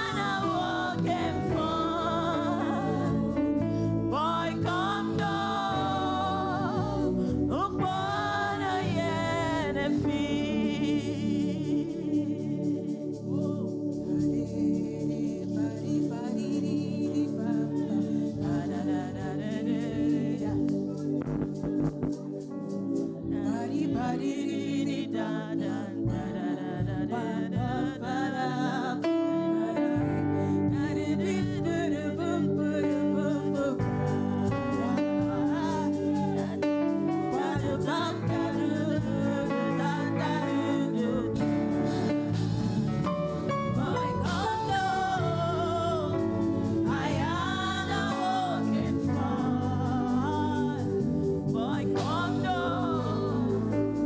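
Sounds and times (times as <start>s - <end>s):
gospel singing over a band: 0.0s - 54.0s.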